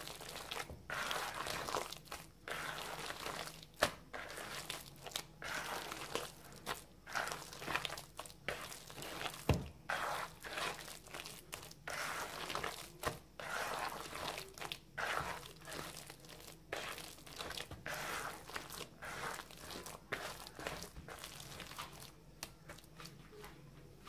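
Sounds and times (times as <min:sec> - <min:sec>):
hand squelching wet batter: 0:00.0 - 0:23.1.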